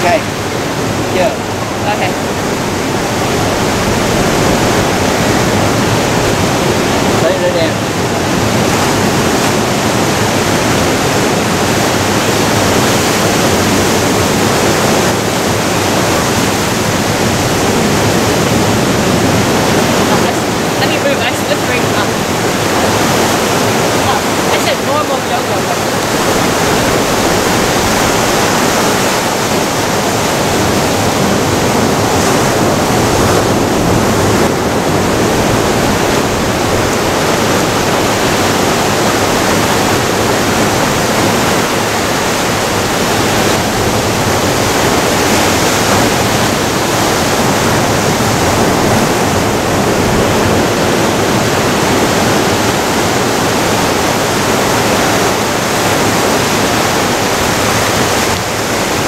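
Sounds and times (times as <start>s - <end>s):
surf breaking on rocks: 0.0s - 59.0s.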